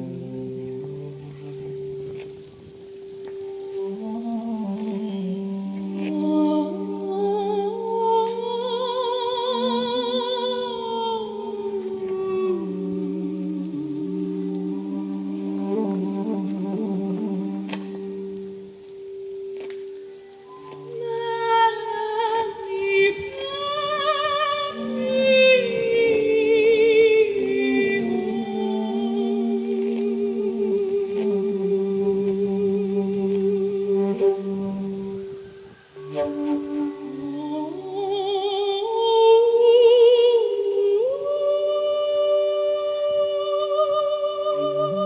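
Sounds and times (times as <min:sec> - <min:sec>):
person singing with vibrato: 0:00.0 - 0:45.0.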